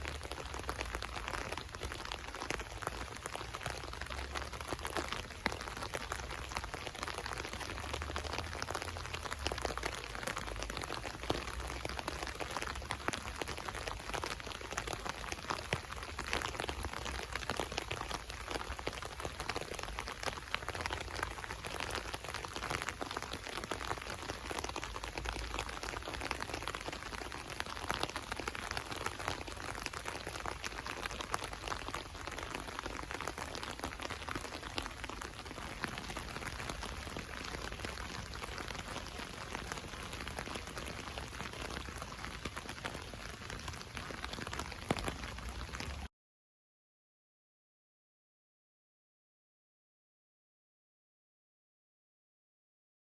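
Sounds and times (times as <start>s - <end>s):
rain pattering on an umbrella: 0.0s - 46.1s.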